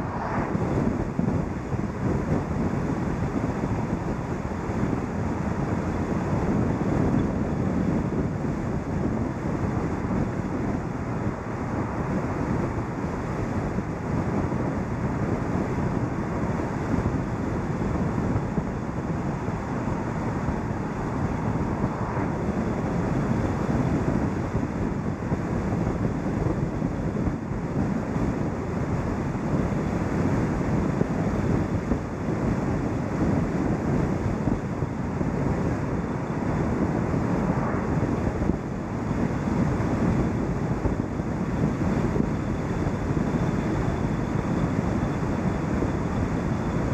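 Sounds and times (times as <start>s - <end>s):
car tyre and road noise: 0.0s - 46.9s
wind rushing over microphone: 0.0s - 46.9s.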